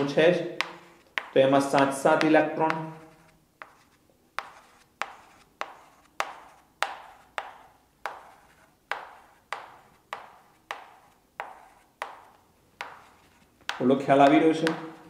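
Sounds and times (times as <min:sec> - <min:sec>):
chalk tapping on a chalkboard: 0:00.0 - 0:15.0.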